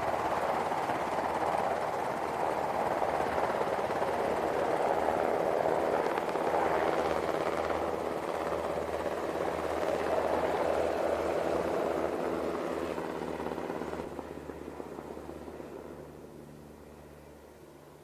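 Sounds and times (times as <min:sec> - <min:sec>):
helicopter rotor and turbine noise: 0:00.0 - 0:18.0.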